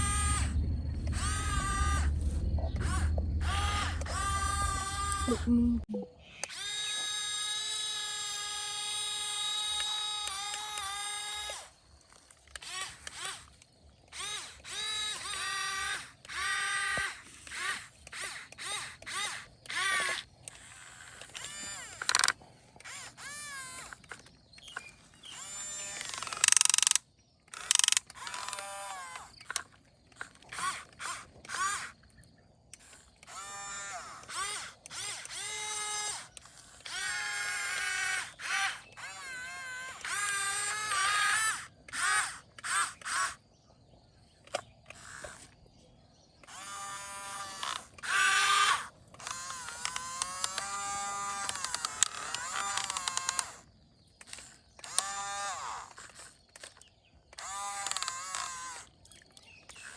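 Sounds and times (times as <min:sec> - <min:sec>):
electric motors whining: 0:00.0 - 0:43.4, 0:44.5 - 0:45.8, 0:46.4 - 0:59.9.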